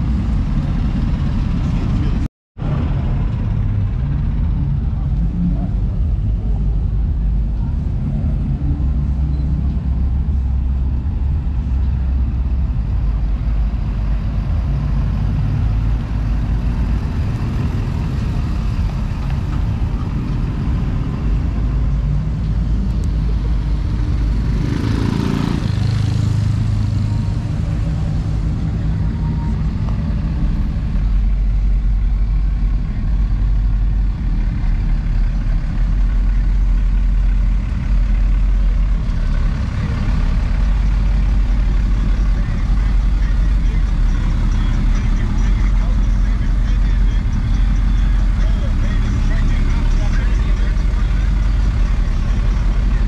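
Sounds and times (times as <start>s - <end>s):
pickup truck engines rumbling: 0.0s - 53.0s.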